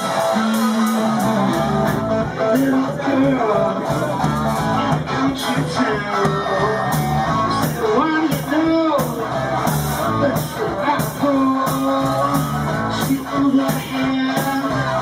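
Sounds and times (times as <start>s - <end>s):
lead guitar bending notes: 0.0s - 15.0s
rock band playing: 0.0s - 15.0s.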